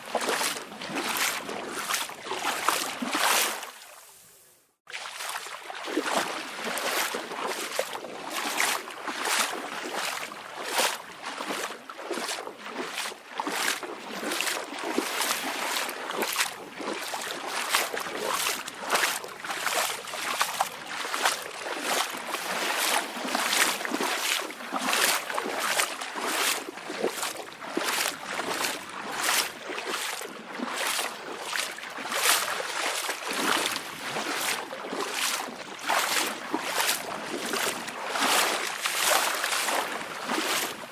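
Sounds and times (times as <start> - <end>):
small waves lapping and splashing: 0.0 - 40.9.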